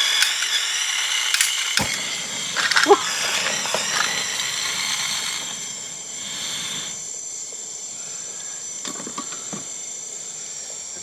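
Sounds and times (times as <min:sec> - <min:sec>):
camping stove burner hissing: 0:00.0 - 0:10.7.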